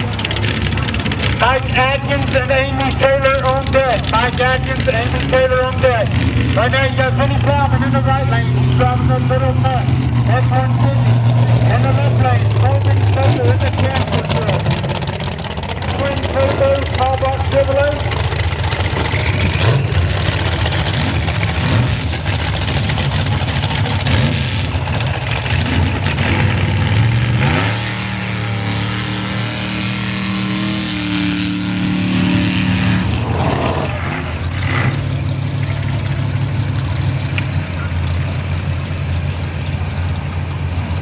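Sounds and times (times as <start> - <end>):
engine revving at full throttle: 0.0 - 35.8
truck engines rumbling: 0.0 - 41.0.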